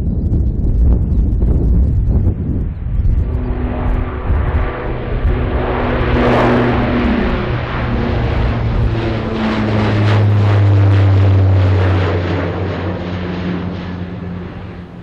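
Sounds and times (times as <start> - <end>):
airliner engines droning: 0.0 - 15.0.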